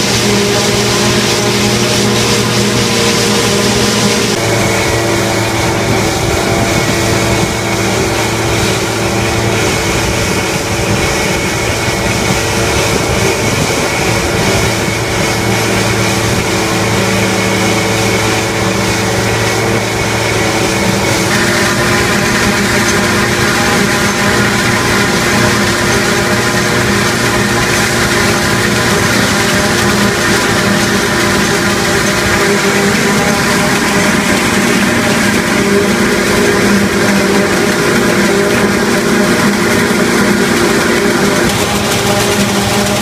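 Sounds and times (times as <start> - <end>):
forage harvester machine drone: 0.0 - 43.0.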